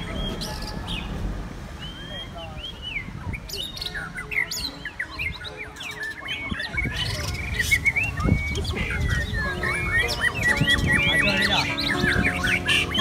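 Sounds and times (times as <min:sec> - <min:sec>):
birds chattering calls: 0:00.0 - 0:13.0
birds whistling songs: 0:00.0 - 0:13.0.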